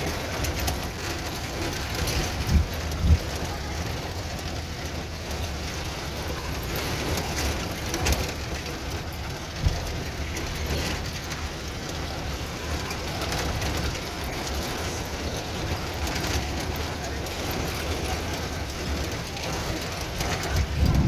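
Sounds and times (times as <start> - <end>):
vehicle rumbling over bricks: 0.0 - 21.0.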